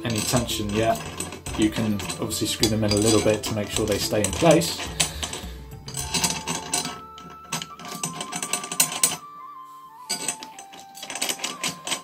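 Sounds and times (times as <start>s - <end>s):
metallic clicks of drum tension rods: 0.0s - 9.2s, 10.1s - 12.0s
thin high background music: 0.0s - 12.0s.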